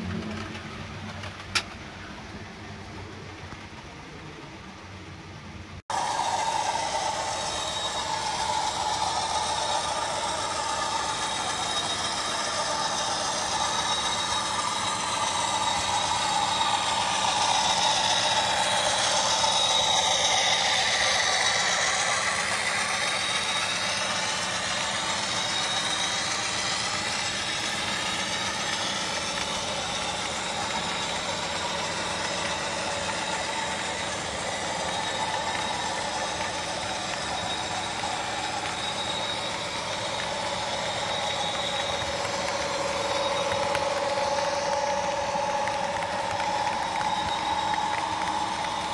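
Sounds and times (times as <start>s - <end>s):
model train wheels rattling: 0.0s - 2.0s, 5.9s - 48.9s.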